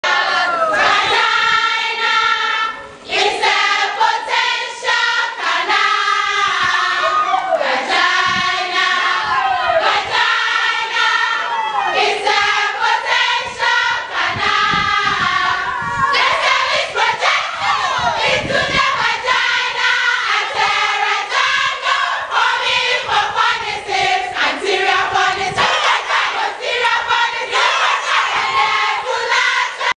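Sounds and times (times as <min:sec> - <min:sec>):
women singing and shouting together: 0:00.1 - 0:29.9.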